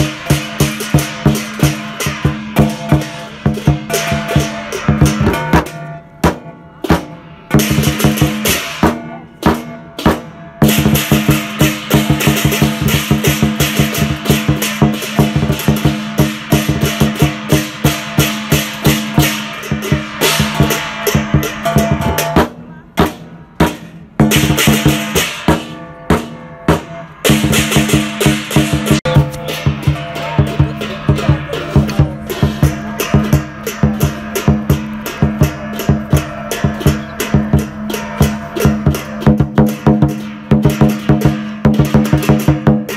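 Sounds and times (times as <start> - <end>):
cymbals crashing: 0.0 - 42.9
drum beating fast: 0.0 - 42.9.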